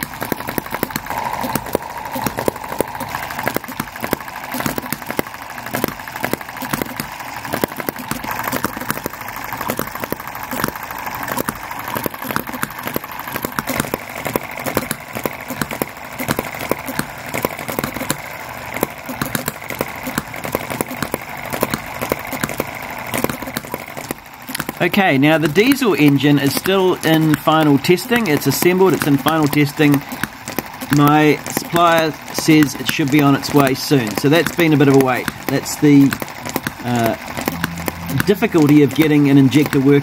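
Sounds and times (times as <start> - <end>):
small engines popping and clicking: 0.0 - 40.0.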